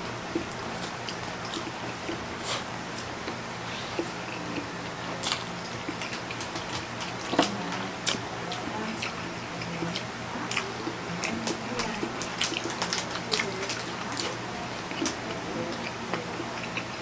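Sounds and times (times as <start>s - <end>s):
faint low hum: 0.0s - 17.0s
wet chewing and slurping: 0.3s - 17.0s.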